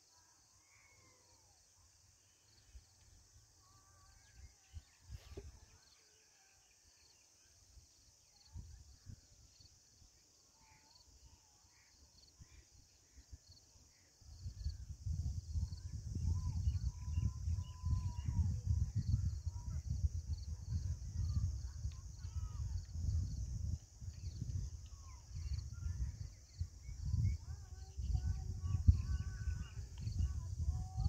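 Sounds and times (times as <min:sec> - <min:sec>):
insect drone: 0:00.0 - 0:31.0.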